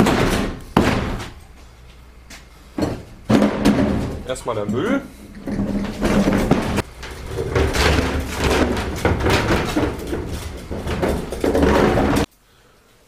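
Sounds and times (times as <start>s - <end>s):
low rumble of movement: 0.0s - 12.3s
rubbish rustling and knocking: 0.0s - 12.3s.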